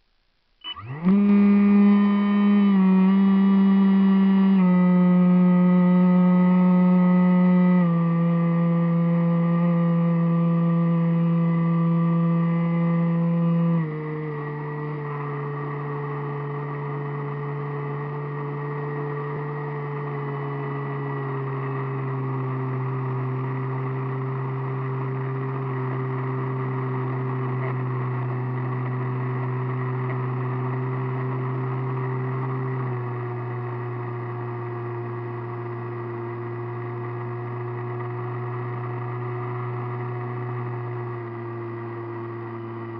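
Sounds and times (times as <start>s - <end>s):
model airplane motor whine: 0.6s - 42.9s.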